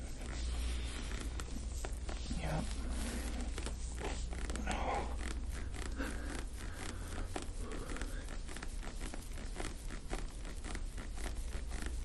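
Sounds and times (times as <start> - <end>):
hands rubbing skin: 0.0 - 12.0
low steady hum: 0.0 - 12.0.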